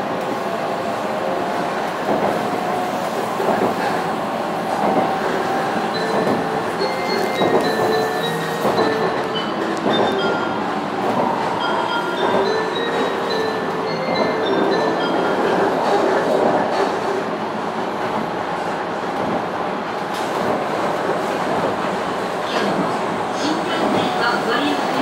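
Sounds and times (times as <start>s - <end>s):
train wheels rumbling: 0.0s - 25.0s.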